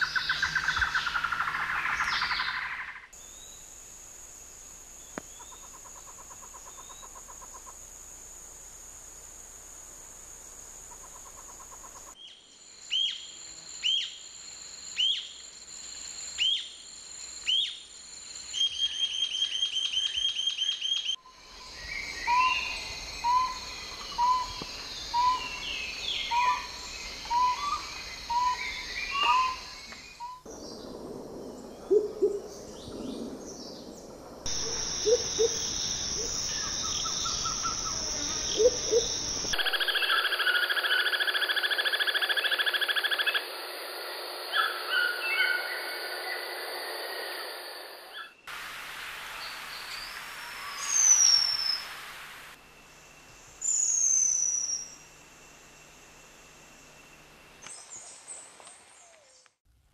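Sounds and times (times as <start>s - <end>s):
steady high hiss: 3.1s - 20.6s, 21.2s - 59.4s.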